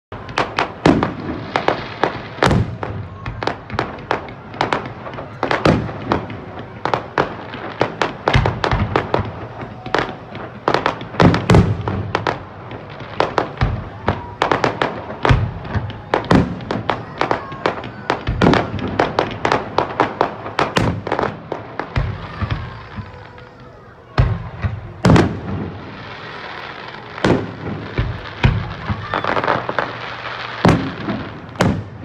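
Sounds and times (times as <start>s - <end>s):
deep fireworks booms: 0.1s - 32.0s
fireworks bangs and crackles: 0.1s - 32.0s.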